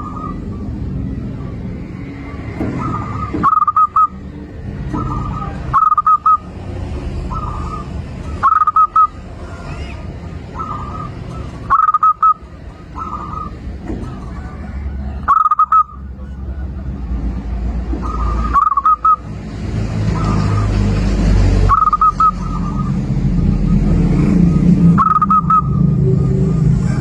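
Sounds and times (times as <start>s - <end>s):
dove cooing: 0.0s - 19.3s, 21.6s - 27.0s.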